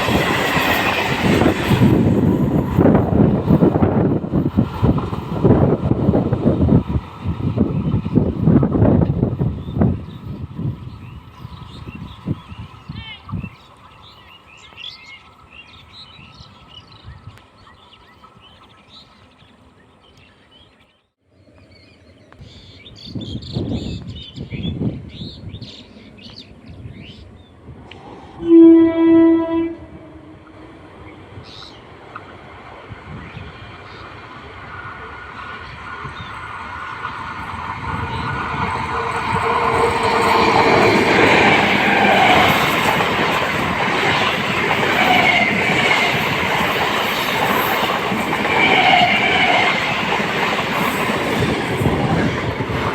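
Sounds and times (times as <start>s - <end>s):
train rumble and motor hum: 0.0s - 14.0s, 24.4s - 52.9s
outdoor background noise: 0.0s - 52.9s.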